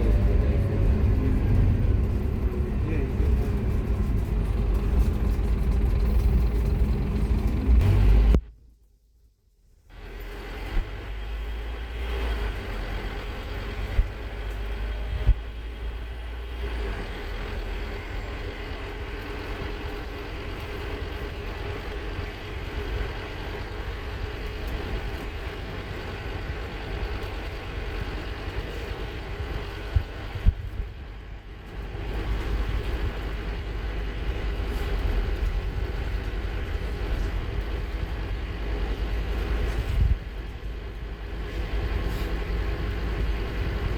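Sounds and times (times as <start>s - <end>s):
bus engine running: 0.0s - 8.4s, 9.9s - 43.9s.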